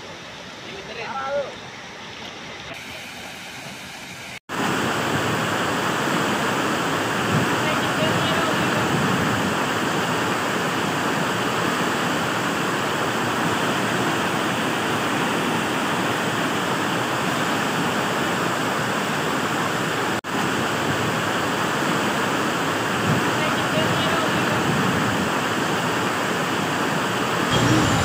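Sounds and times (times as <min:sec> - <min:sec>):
waterfall rushing: 0:02.7 - 0:28.0.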